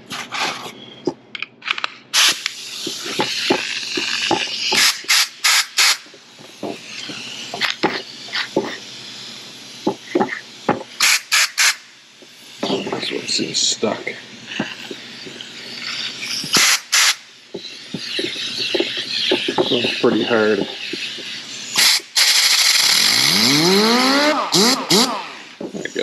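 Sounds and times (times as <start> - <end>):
compressed air hissing: 2.1 - 26.0.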